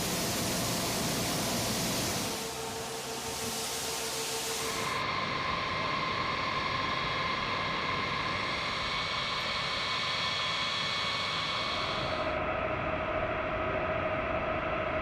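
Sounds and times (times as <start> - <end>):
jet engines running: 0.0 - 12.5.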